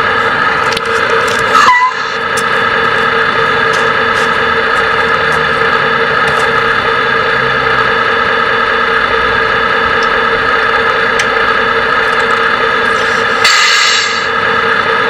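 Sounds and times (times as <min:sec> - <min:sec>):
engine-like idling hum: 0:00.0 - 0:15.0.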